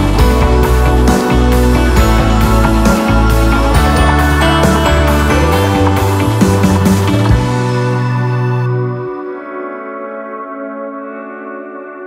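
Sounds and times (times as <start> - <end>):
held music chord: 0.0 - 12.0.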